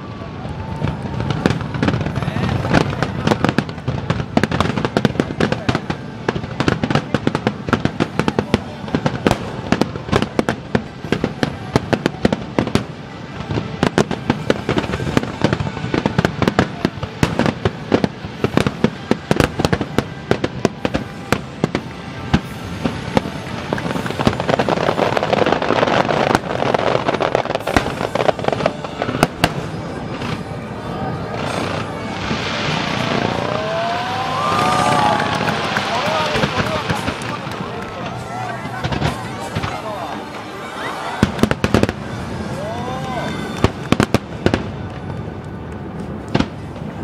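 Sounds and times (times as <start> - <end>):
steady rush of noise: 0.0 - 47.0.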